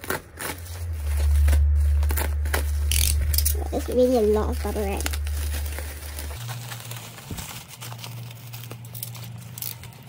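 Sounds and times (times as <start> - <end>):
bubble wrap crinkling: 0.0 - 10.0
low steady hum: 0.0 - 10.0.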